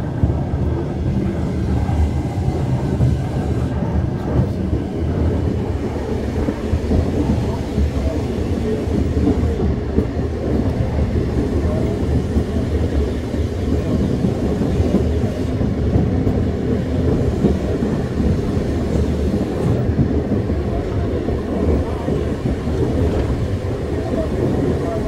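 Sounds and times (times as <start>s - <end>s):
tram wheels rumbling on rail: 0.0s - 25.0s.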